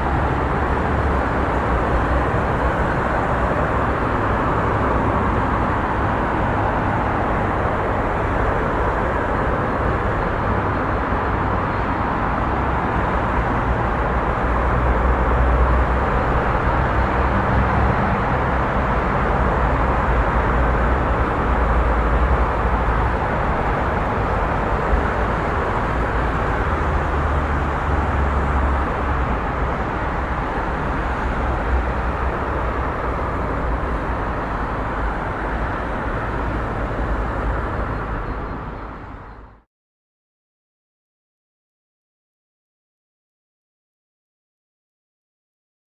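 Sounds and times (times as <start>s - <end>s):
heavy vehicle engine rumble: 0.0s - 39.6s
passing traffic: 0.0s - 39.7s.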